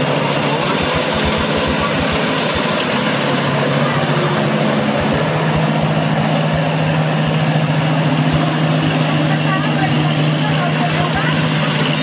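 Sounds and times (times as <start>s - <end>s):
mower engine droning: 0.0s - 12.0s.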